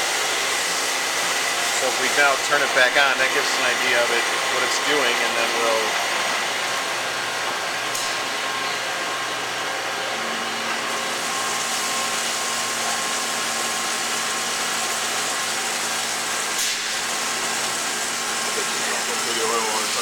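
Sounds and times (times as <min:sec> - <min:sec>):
lathe whirring hum: 0:00.0 - 0:20.0.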